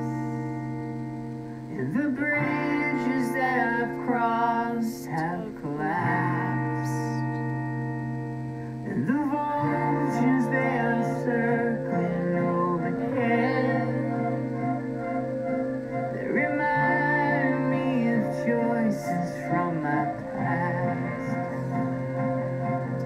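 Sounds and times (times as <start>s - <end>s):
person singing: 0.0s - 7.8s, 8.7s - 23.0s
guitar accompaniment: 0.0s - 23.0s.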